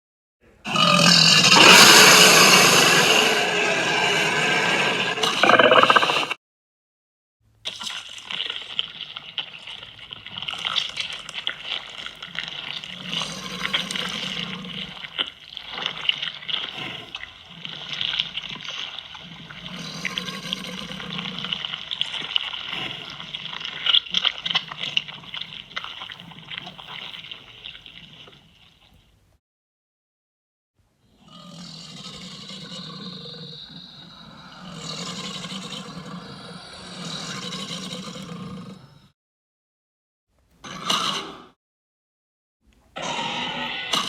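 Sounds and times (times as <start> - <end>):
rasping crackling creature sound: 0.6 - 6.4, 7.9 - 28.9, 31.2 - 39.1, 43.0 - 44.0.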